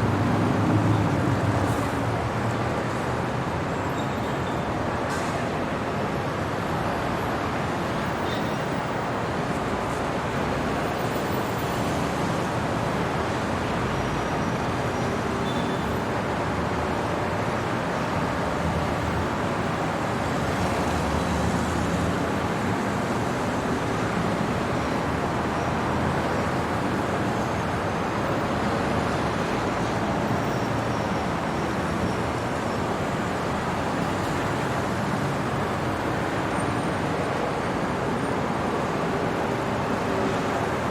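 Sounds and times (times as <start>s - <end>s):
city traffic noise: 0.0s - 40.9s.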